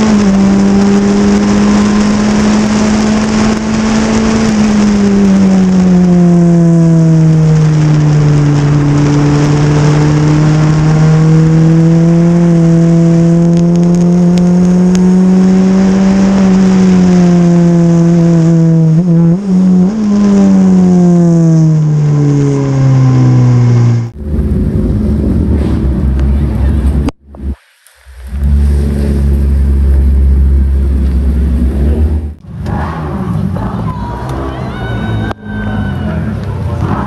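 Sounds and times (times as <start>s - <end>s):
race car engine at high revs: 0.0s - 27.6s, 28.3s - 35.3s.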